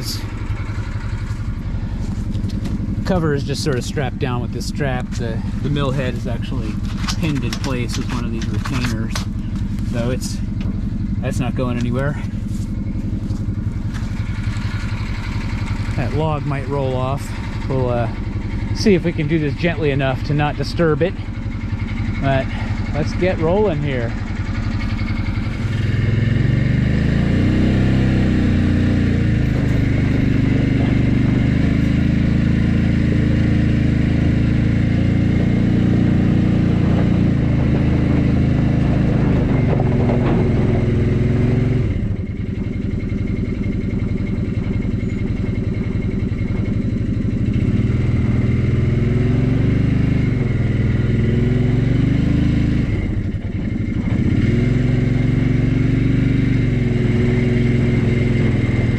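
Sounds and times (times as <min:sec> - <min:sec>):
vehicle engine under load: 0:00.0 - 0:58.9.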